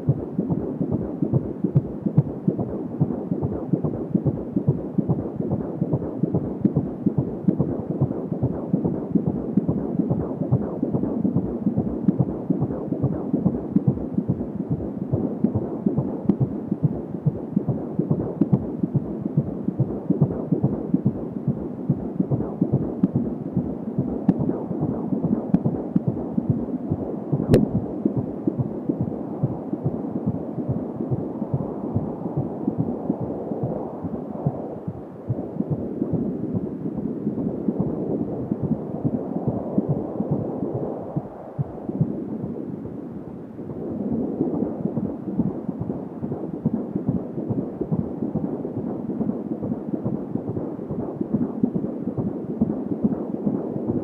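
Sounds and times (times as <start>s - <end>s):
rapid fetal heartbeat pulsing: 0.0s - 54.0s.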